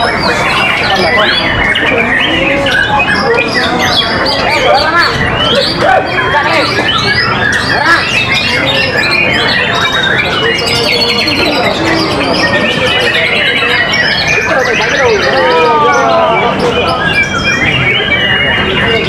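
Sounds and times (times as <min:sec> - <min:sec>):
bird singing whistles and trills: 0:00.0 - 0:19.0
other birds singing: 0:00.0 - 0:19.0.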